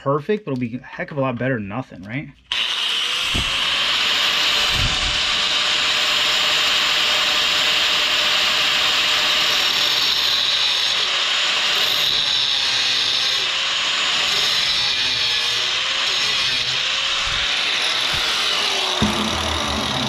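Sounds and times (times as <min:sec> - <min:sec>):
angle grinder cutting steel: 0:02.5 - 0:20.0.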